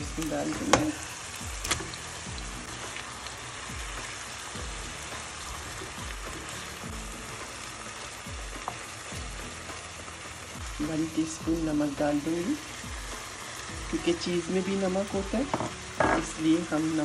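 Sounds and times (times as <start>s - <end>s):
meat sizzling in a frying pan: 0.0s - 17.0s
soft background music beat: 0.0s - 17.0s.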